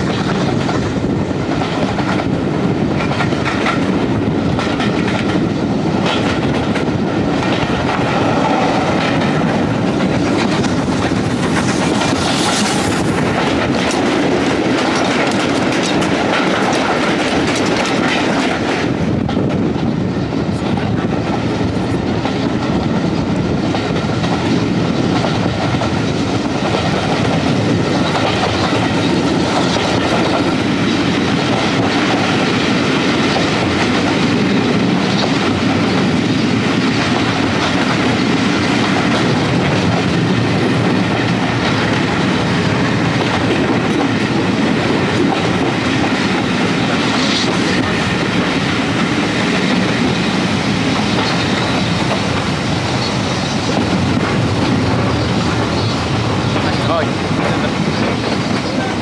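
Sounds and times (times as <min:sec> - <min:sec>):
clickety-clack of rail joints: 0:00.0 - 0:59.0
train wheels rumbling on rail: 0:00.0 - 0:59.0.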